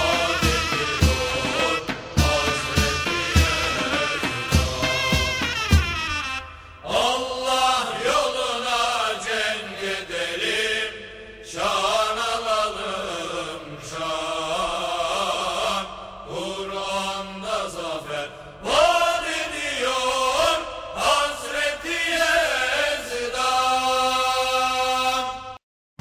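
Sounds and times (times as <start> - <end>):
person chanting: 0.0 - 5.4, 6.8 - 25.6.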